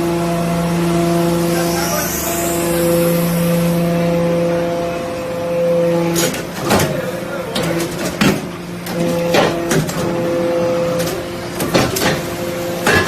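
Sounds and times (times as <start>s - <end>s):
hydraulic pump motor humming: 0.0s - 13.0s.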